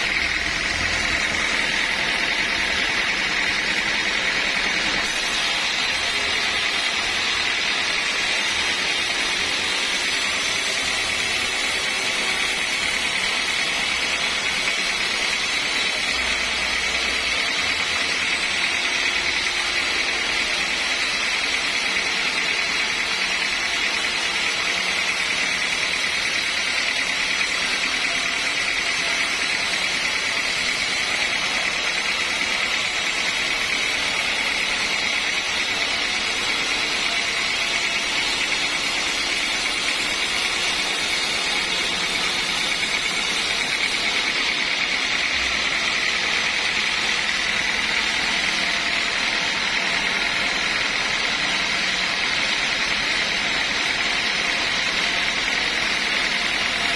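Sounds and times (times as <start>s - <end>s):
sawmill machinery with high whine: 0.0s - 56.9s.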